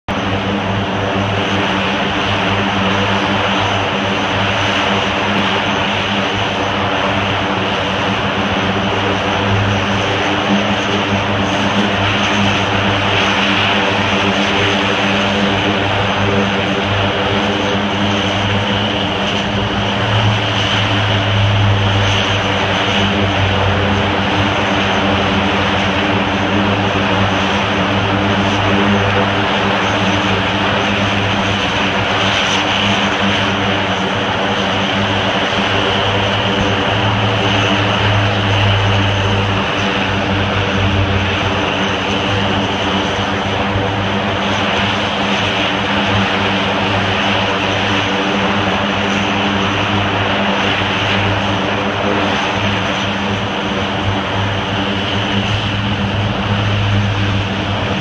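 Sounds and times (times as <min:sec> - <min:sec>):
turboprop engines droning: 0:00.0 - 0:58.0
high engine whine: 0:00.1 - 0:58.0.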